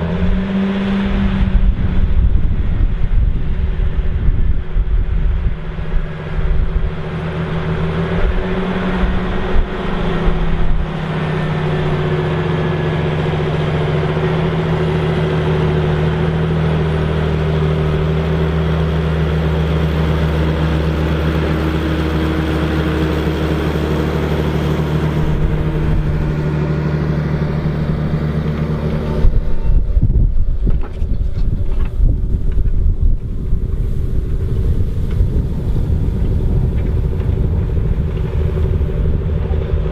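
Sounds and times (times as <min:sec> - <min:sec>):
tractor diesel engine under load: 0:00.0 - 0:39.9
wind buffeting microphone: 0:00.0 - 0:39.9.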